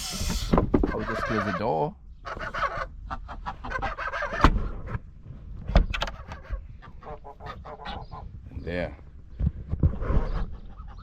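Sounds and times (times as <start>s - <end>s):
ducks chattering: 0.0s - 5.0s, 5.8s - 9.0s, 10.0s - 11.0s.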